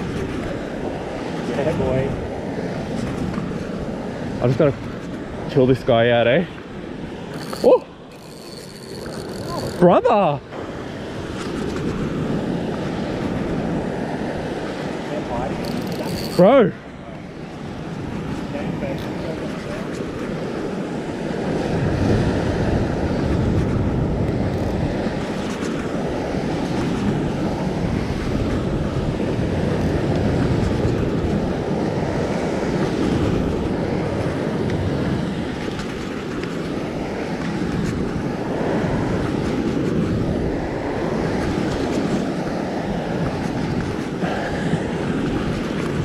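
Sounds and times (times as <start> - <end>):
surf washing against rock: 0.0 - 46.0
wind buffeting microphone: 0.0 - 46.0.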